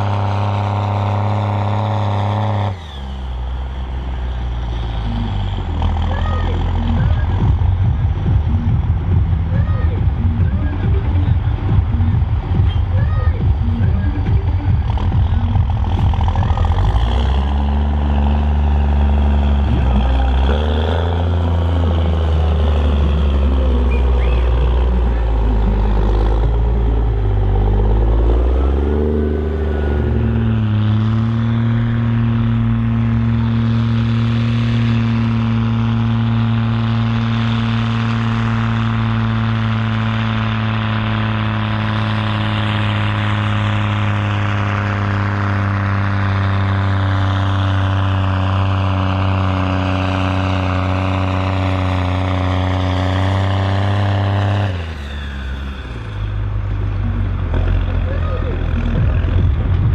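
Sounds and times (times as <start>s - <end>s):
tractor engine at full throttle: 0.0s - 59.9s.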